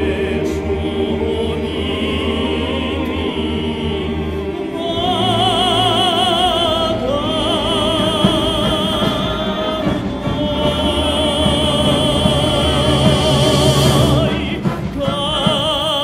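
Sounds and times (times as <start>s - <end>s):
operatic singing with vibrato: 0.0s - 16.0s
orchestral accompaniment: 0.0s - 16.0s.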